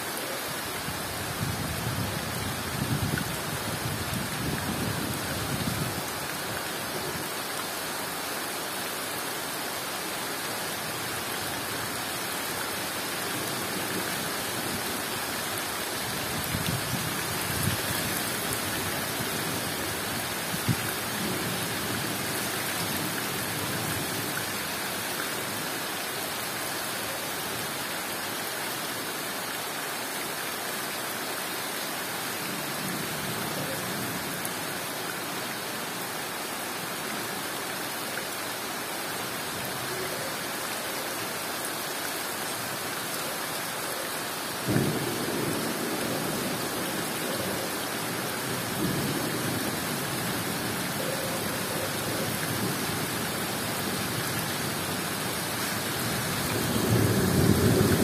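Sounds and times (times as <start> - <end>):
heavy rain on foliage: 0.0 - 58.0.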